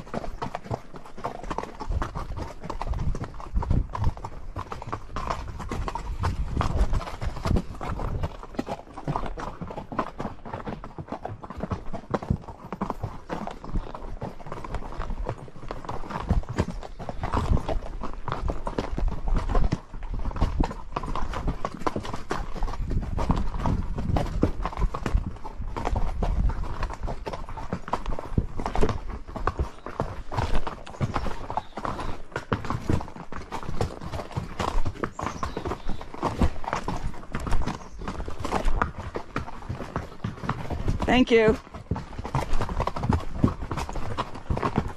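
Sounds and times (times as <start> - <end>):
horse hooves clip-clopping: 0.0 - 44.9.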